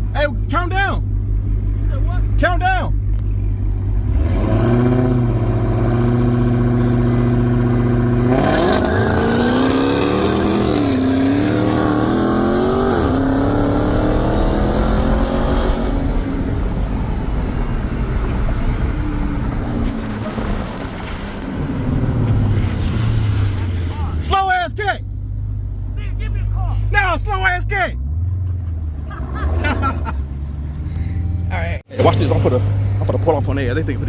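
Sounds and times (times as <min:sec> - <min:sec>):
car engines revving: 0:00.0 - 0:26.0, 0:26.8 - 0:34.0.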